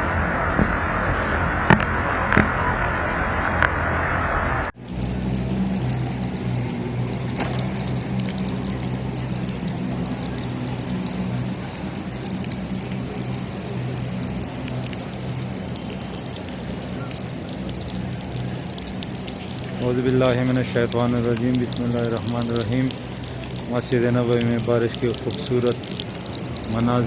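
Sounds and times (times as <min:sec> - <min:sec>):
light rain dripping: 0:04.8 - 0:27.0
machine humming: 0:04.8 - 0:27.0.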